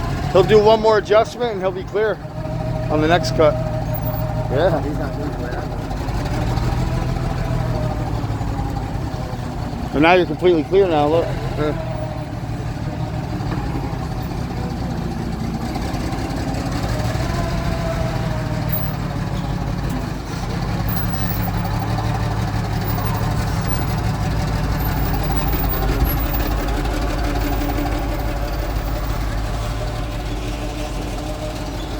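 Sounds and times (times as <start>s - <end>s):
forklift engine running: 0.0s - 31.9s.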